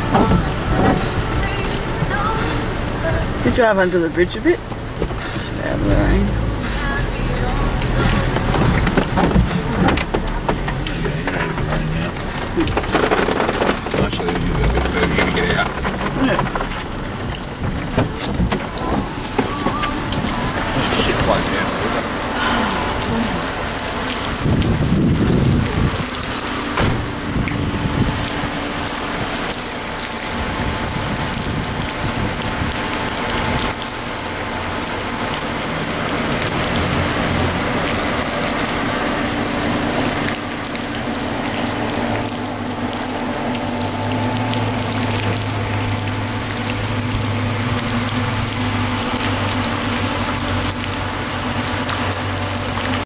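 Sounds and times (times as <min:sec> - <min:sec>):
flooded river rushing: 0:00.0 - 0:53.0.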